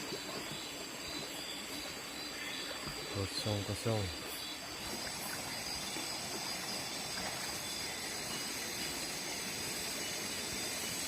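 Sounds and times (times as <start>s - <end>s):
even hiss: 0.0s - 11.0s
high insect drone: 0.0s - 11.0s.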